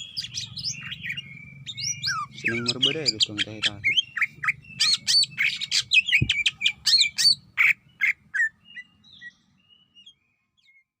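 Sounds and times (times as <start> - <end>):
bird singing: 0.0 - 11.0.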